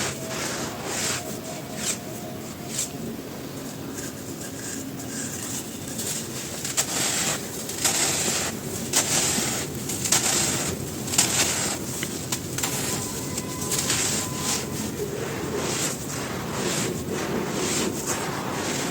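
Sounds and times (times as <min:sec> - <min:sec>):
dry crumbly material crunching: 0:03.7 - 0:18.9.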